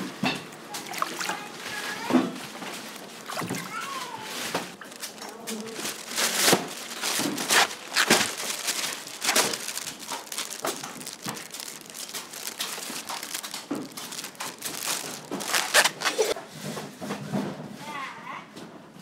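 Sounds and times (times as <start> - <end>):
plastic bag crinkling: 0.7 - 16.4.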